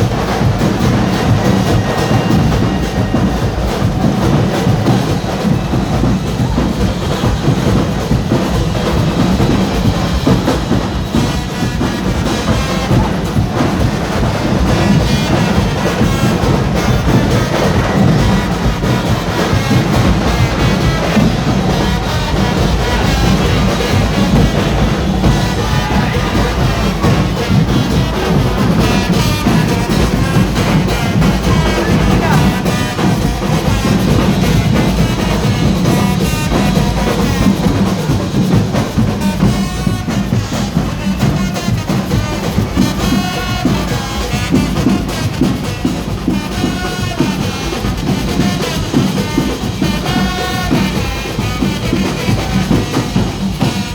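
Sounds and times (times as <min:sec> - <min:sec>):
carnival band with drums and brass: 0:00.0 - 0:53.9.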